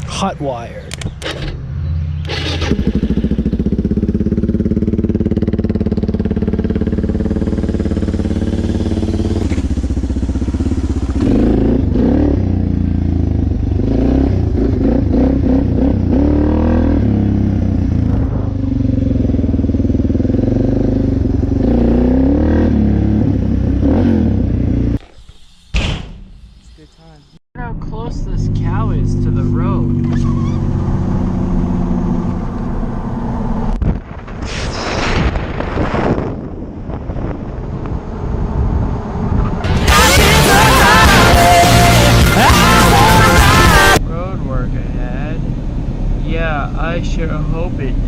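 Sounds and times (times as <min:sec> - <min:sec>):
motorcycle engine starting and running: 0:00.0 - 0:25.4, 0:27.6 - 0:34.1, 0:36.3 - 0:48.0.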